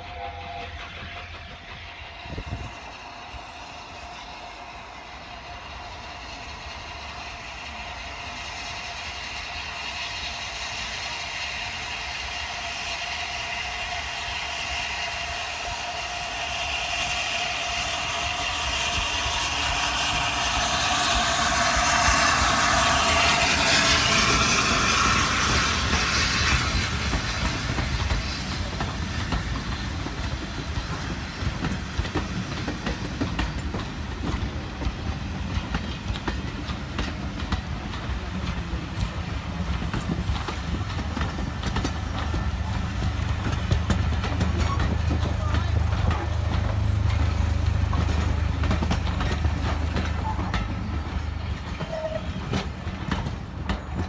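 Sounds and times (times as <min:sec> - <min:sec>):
steam locomotive passing: 0:00.0 - 0:54.0
train wheels clacking over rail joints: 0:03.7 - 0:54.0.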